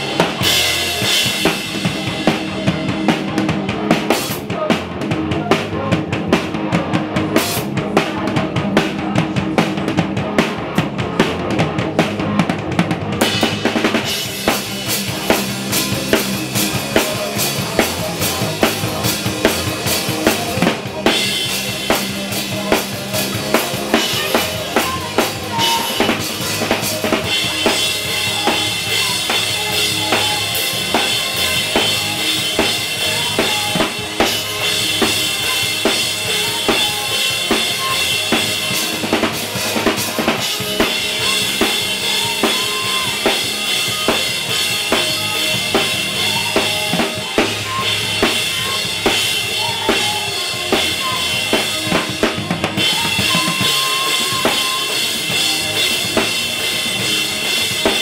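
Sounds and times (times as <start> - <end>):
band pitched instruments: 0.0 - 58.0.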